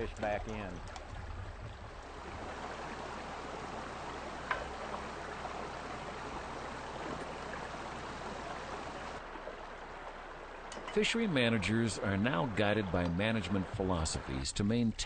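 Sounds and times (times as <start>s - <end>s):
shallow creek running: 0.0s - 15.0s.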